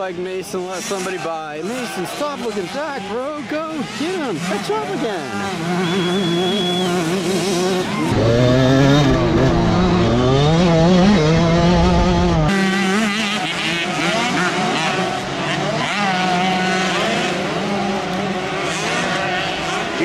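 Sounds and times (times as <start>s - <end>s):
dirt bike engine revving: 0.0s - 20.0s
dirt bike engines revving uphill: 0.0s - 20.0s.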